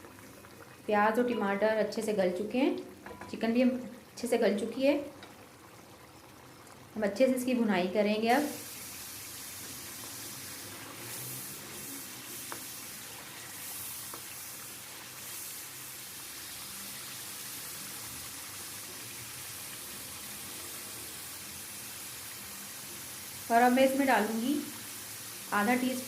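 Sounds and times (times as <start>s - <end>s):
curry sizzling in a pan: 0.0s - 26.0s.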